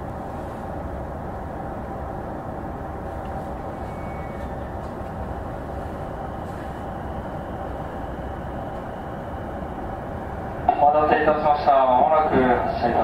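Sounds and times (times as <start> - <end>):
train equipment hum: 0.0 - 13.0.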